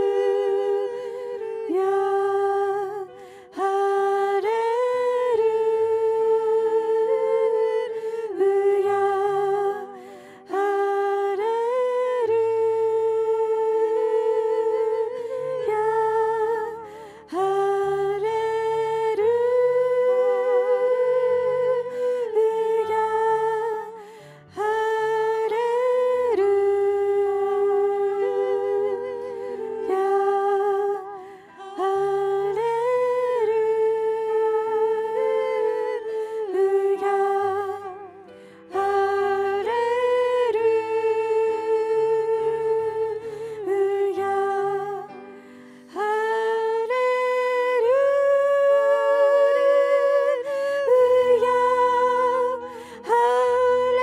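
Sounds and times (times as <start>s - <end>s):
women singing: 0.0s - 54.0s.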